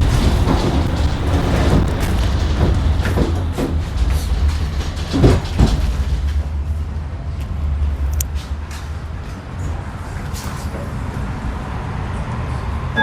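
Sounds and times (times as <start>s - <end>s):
tram rumble: 0.0s - 13.0s.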